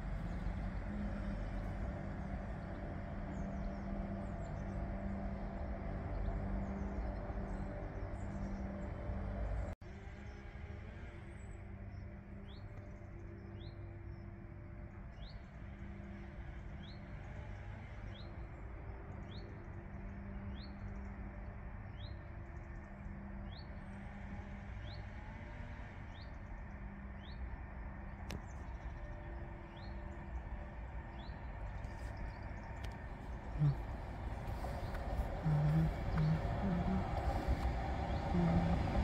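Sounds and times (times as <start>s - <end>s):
bird chirping: 0.0s - 10.4s, 11.3s - 39.0s
low steady hum: 0.0s - 39.0s.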